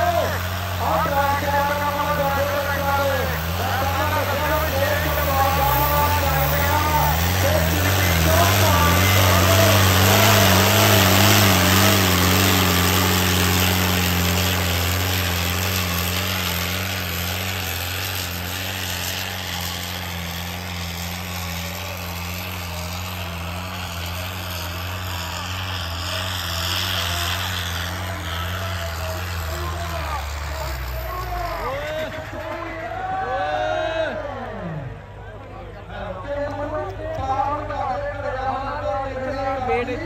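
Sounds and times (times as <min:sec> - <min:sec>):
disc harrow dragging through dirt: 0:00.0 - 0:32.6
tractor diesel engine running hard: 0:00.0 - 0:33.3.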